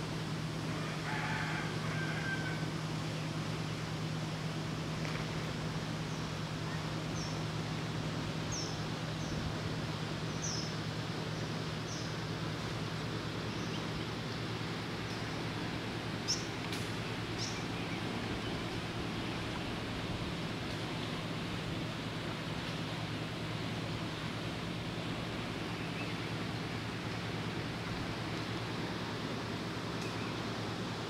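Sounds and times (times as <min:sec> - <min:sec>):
outdoor noise with low hum: 0:00.0 - 0:31.0.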